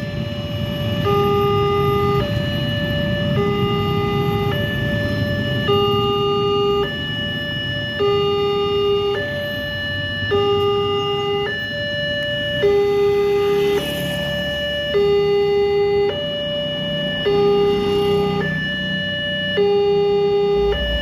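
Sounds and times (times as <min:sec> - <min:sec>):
level crossing two-tone alarm: 0:00.0 - 0:21.0
motorcycle and car engines: 0:00.0 - 0:21.0.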